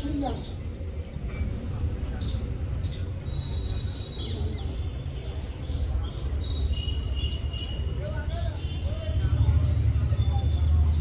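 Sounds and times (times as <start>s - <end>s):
small birds chirping: 2.1s - 11.0s.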